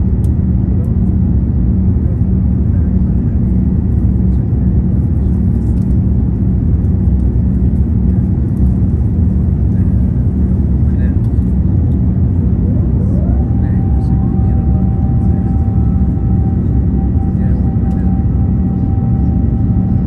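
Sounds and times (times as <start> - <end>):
airplane cabin roar: 0.0 - 20.0.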